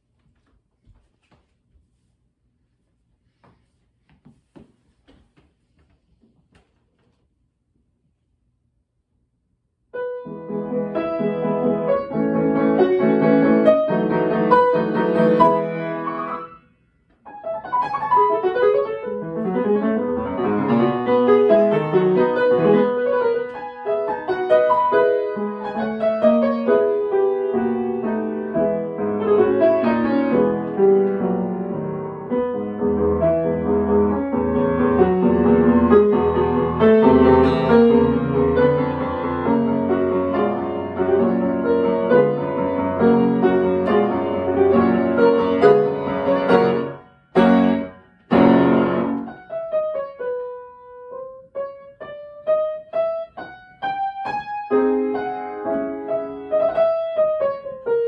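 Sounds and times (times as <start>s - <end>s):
solo grand piano: 9.9s - 58.0s.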